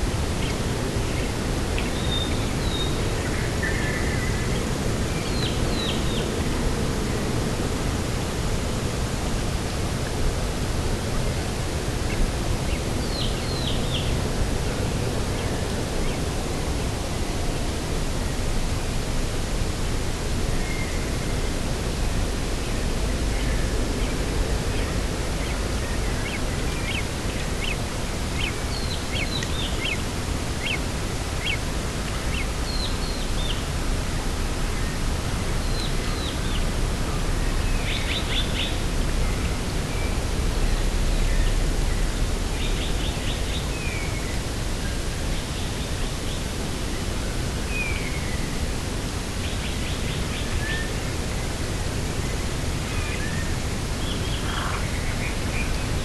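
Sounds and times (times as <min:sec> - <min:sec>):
distant sea: 0:00.0 - 0:56.0
wind: 0:00.0 - 0:56.0.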